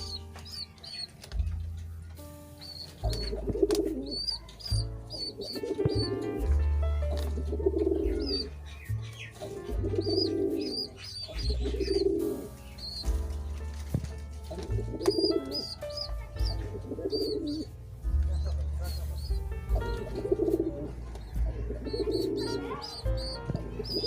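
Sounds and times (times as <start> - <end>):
high bird chirps: 0.0 - 13.6, 14.5 - 24.0
background music with deep bass: 0.0 - 24.0
pigeons cooing: 2.7 - 13.2, 13.9 - 24.0.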